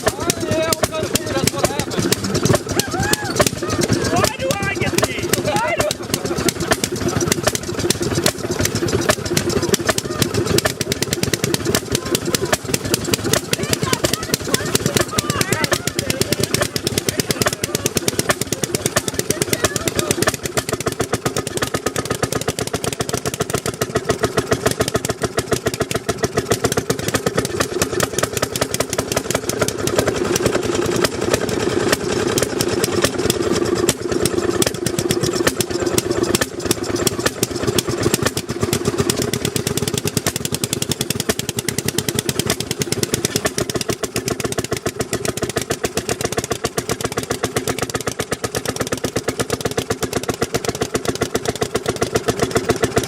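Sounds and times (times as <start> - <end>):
small engine popping exhaust: 0.0 - 53.0.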